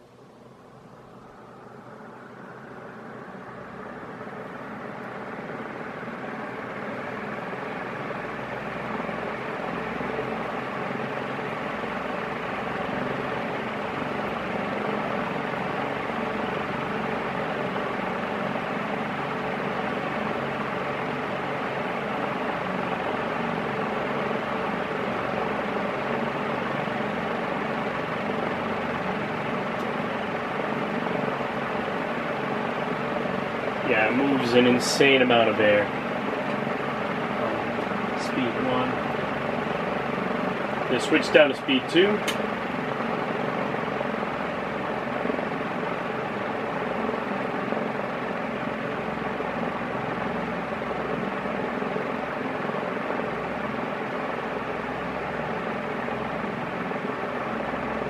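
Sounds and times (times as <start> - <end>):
ceiling fan blades rushing air: 0.0 - 58.0.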